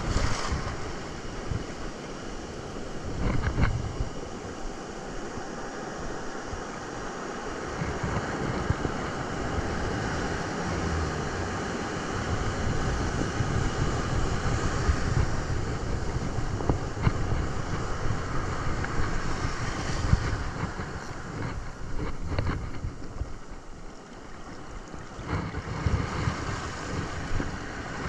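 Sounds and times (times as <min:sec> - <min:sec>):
wind buffeting microphone: 0:00.0 - 0:04.6, 0:07.5 - 0:28.0
ocean surf: 0:00.0 - 0:28.0.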